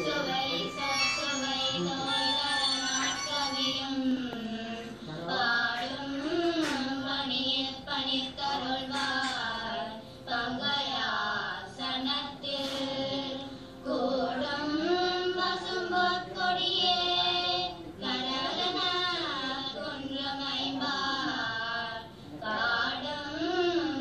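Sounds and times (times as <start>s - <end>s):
girls singing a hymn in unison: 3.3s - 24.0s.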